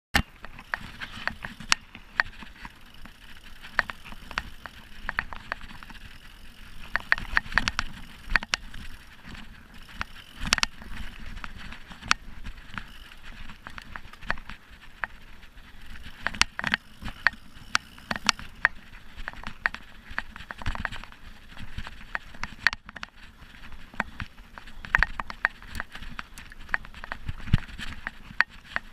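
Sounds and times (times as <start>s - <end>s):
bike clicks and rattles: 0.2s - 28.9s.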